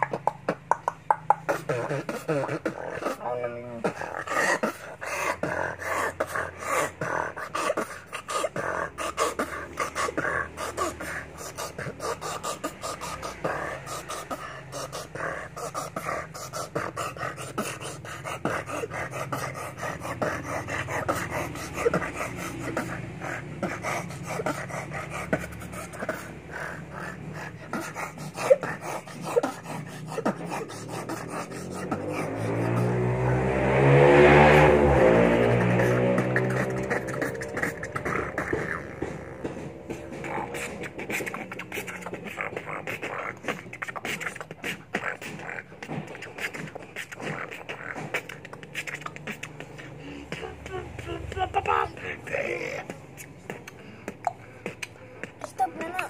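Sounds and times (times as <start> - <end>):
boy beatboxing: 0.0 - 56.0.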